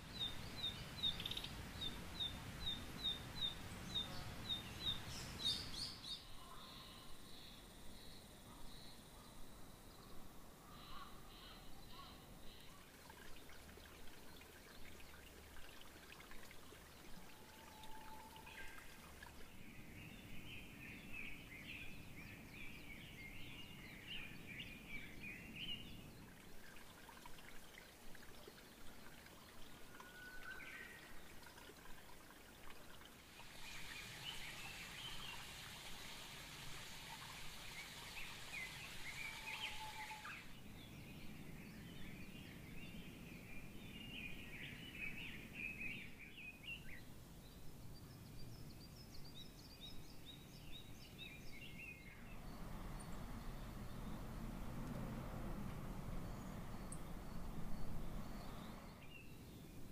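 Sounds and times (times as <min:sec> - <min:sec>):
steady hiss: 0:00.0 - 0:41.4, 0:49.9 - 0:59.9
small birds singing: 0:00.0 - 0:59.9.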